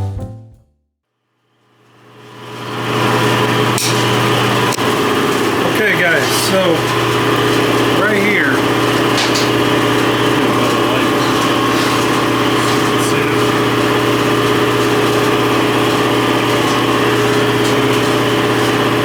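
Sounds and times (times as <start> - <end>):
machine motor humming: 1.9 - 19.0.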